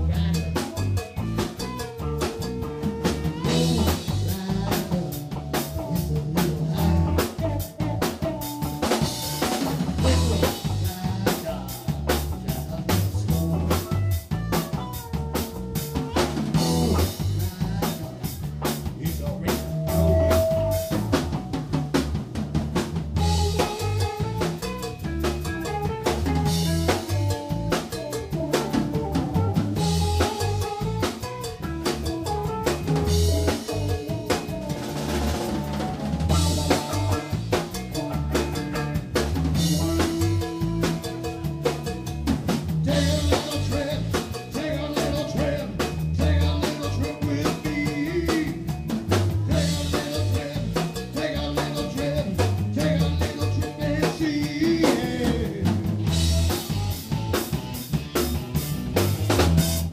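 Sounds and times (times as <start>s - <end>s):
live rock band: 0.0s - 59.9s.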